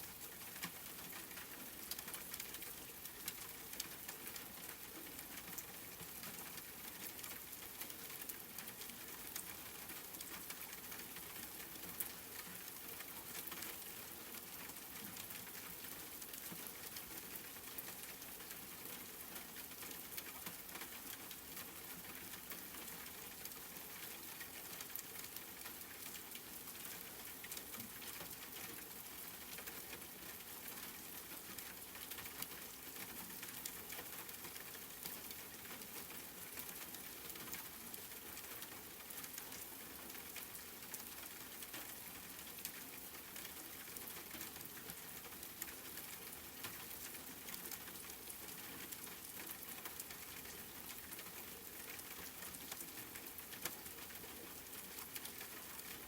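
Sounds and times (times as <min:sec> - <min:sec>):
steady faint rain: 0:00.0 - 0:56.0.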